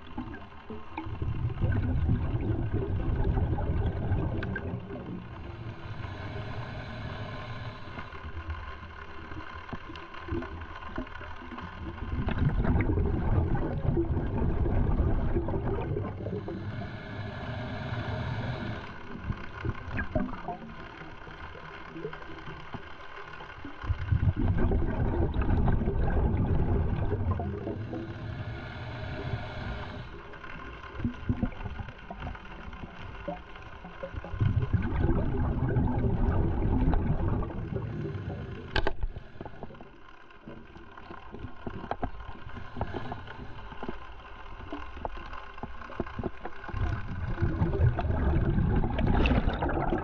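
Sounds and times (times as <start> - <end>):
underwater breath bubbles: 0.0 - 8.4, 10.4 - 20.7, 23.9 - 45.1, 45.9 - 50.0.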